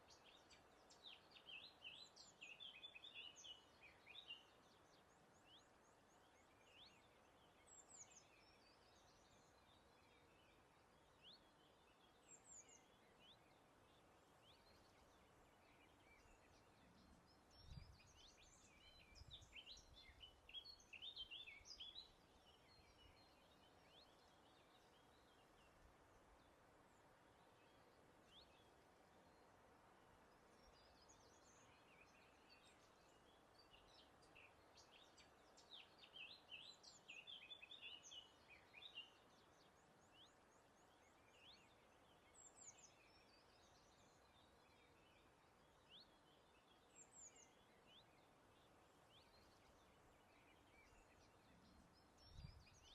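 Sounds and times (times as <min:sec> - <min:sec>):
birds chirping and twittering: 0:00.0 - 0:52.9.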